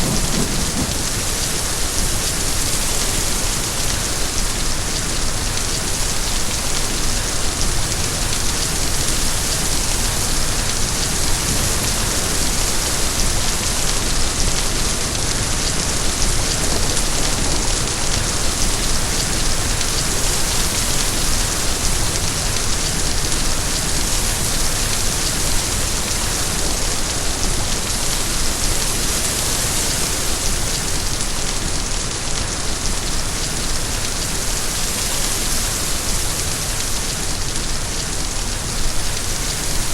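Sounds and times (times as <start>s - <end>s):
heavy rain pattering on surface: 0.0s - 39.9s.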